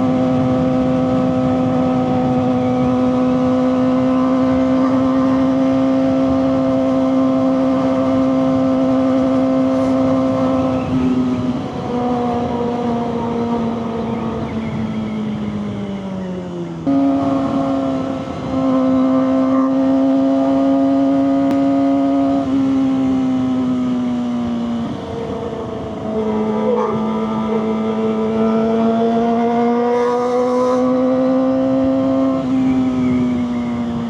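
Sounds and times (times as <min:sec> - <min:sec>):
motorcycle engine at high revs: 0:00.0 - 0:34.0.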